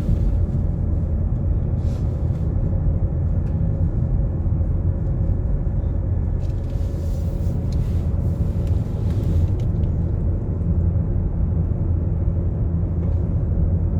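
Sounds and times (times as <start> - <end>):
car engine and road rumble: 0.0 - 13.9.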